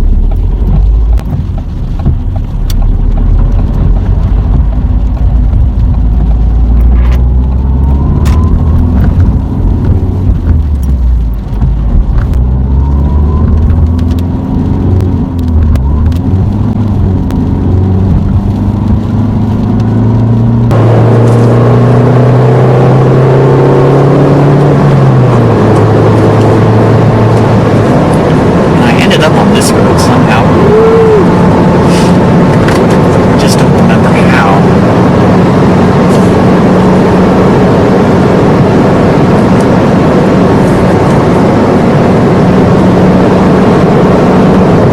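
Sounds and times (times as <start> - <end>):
car engine through gear shifts: 0.0 - 44.9
road and wind noise: 0.0 - 44.9.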